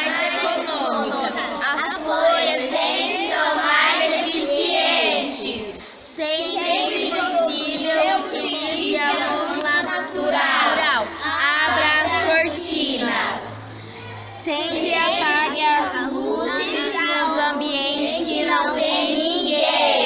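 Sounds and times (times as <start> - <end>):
children singing: 0.0 - 20.0.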